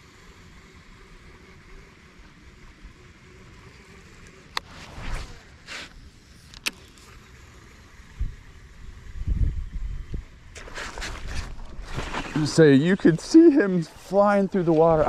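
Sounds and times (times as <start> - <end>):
low rumble of wind and water: 0.0 - 15.0.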